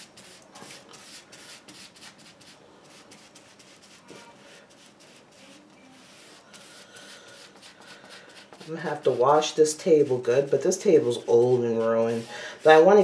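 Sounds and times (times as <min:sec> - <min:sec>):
sponge brush scrubbing gritty paint: 0:00.0 - 0:13.0.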